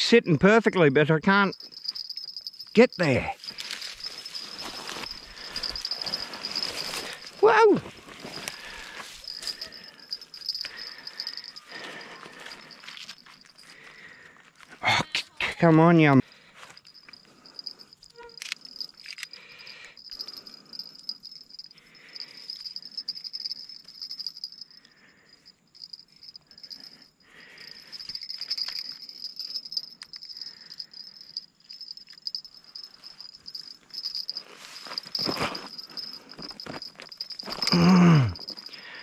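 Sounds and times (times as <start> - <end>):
insects trilling: 1.3 - 14.3, 16.3 - 39.0.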